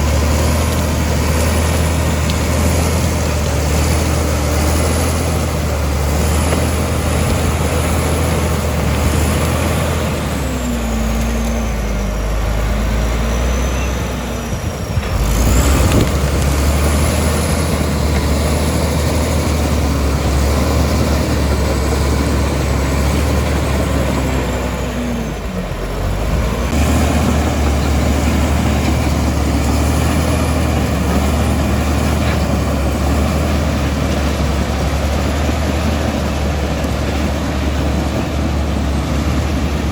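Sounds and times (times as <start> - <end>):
bulldozer diesel engine straining: 0.0 - 39.9.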